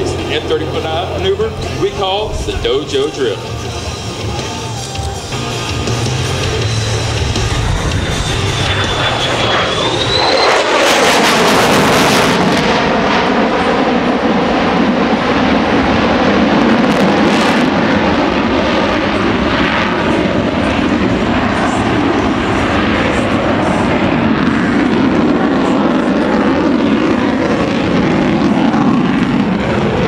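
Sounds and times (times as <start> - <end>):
jet roaring overhead: 0.0 - 30.0.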